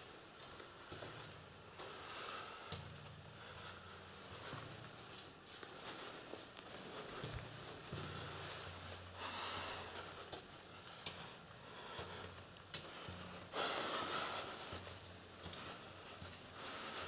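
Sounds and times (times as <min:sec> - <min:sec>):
person breathing: 0:00.6 - 0:17.0.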